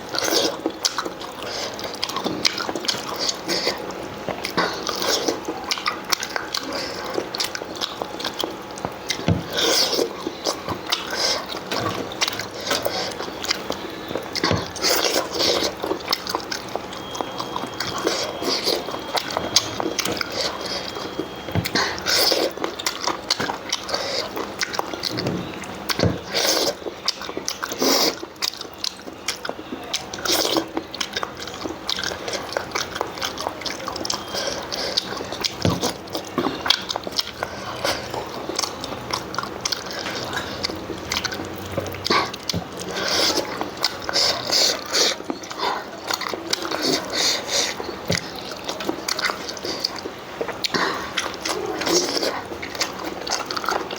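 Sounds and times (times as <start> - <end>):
wet chewing and smacking: 0.0 - 53.9.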